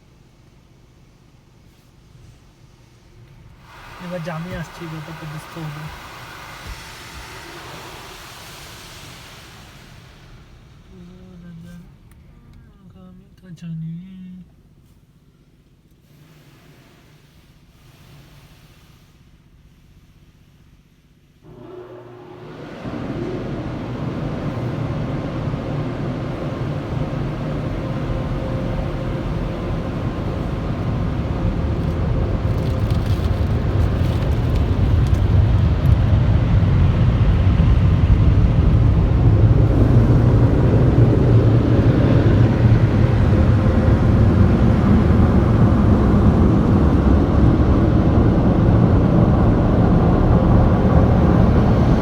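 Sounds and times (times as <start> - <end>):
car wash machinery rumble: 0.0 - 52.0
faint steady hum: 0.0 - 52.0.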